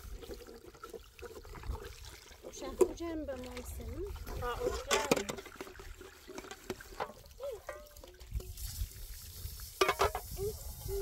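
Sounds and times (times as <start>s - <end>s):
water trickling into metal pot: 0.0s - 11.0s.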